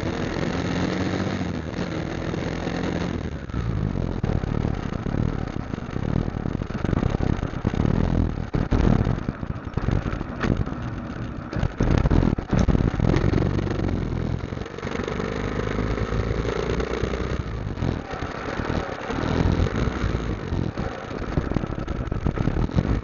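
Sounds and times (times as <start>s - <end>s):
motorcycle engine running: 0.0s - 23.0s
rushing uneven noise: 0.0s - 23.0s.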